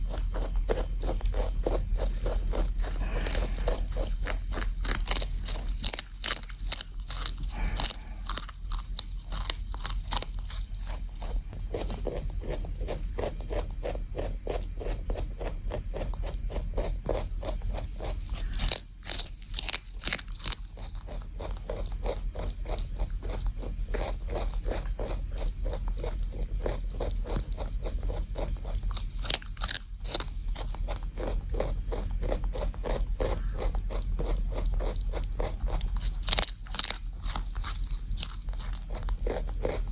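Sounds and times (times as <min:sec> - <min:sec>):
rabbit chewing celery: 0:00.0 - 0:39.9.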